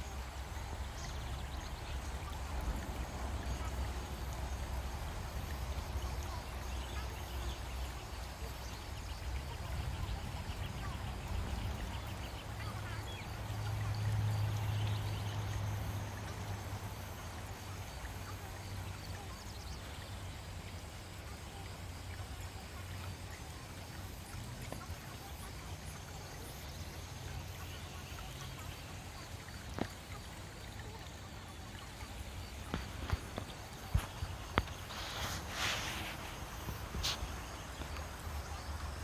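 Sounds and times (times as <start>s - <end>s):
running water: 0.0s - 39.0s.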